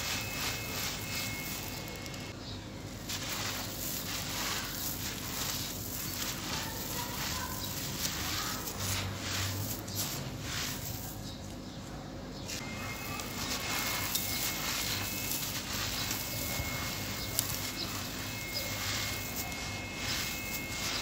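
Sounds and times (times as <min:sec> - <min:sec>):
grains pattering down: 0:00.0 - 0:11.5, 0:12.5 - 0:21.0.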